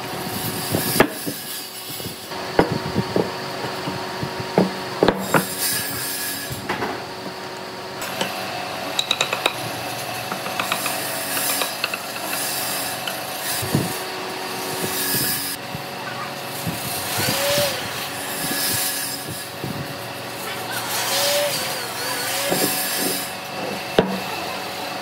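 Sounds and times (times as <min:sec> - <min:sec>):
tool rubbing and scraping wood: 0:00.4 - 0:06.8, 0:08.0 - 0:15.7, 0:16.6 - 0:25.0.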